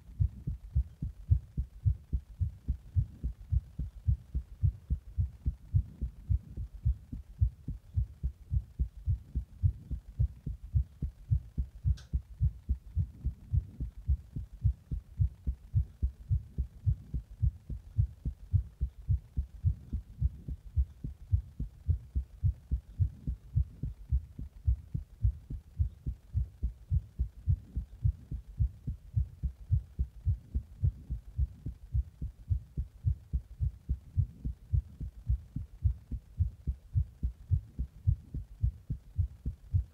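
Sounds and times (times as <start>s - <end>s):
heart beating: 0.0s - 39.9s.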